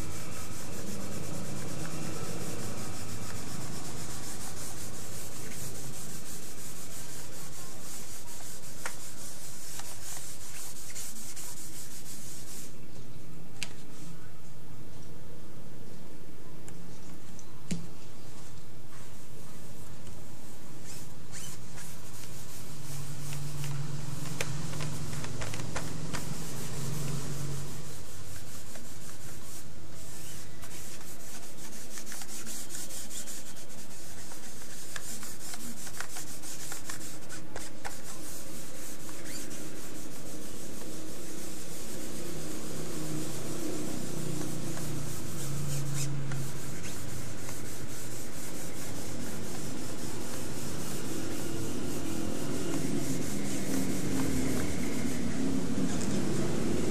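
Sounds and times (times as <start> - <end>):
cotton ball rubbing paper: 0.0 - 12.9, 19.6 - 56.9.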